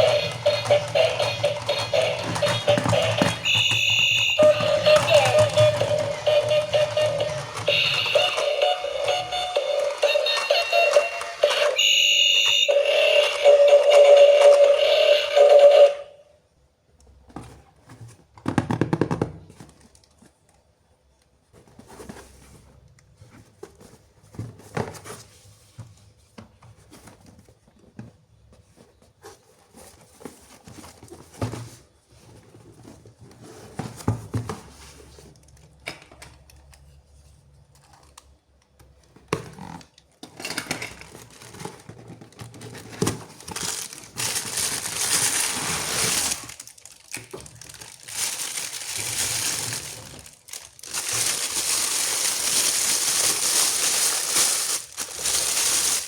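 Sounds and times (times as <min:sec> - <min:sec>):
plastic and cardboard crinkling: 0:00.0 - 0:14.6, 0:19.4 - 0:35.7, 0:36.8 - 0:56.0.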